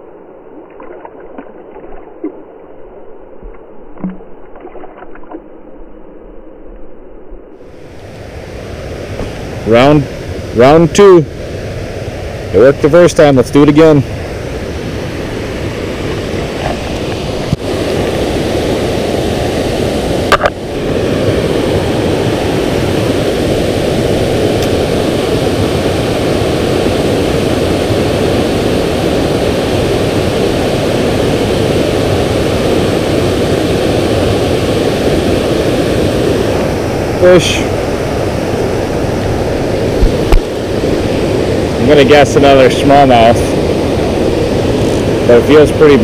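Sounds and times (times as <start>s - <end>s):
water rushing over a dam: 7.6s - 46.0s.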